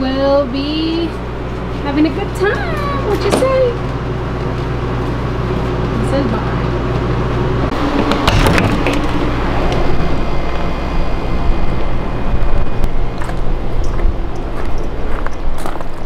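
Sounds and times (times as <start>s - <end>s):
loud rumbling noise: 0.0s - 16.0s.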